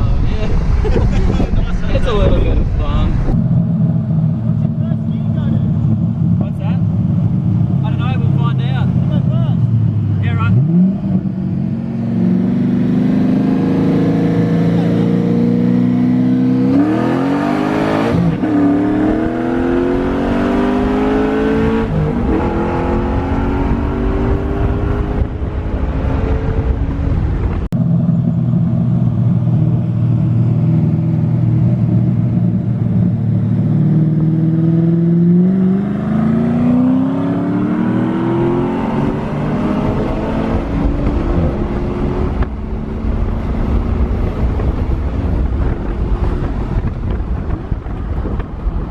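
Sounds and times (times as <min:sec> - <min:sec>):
car engine accelerating hard: 0:00.0 - 0:48.9.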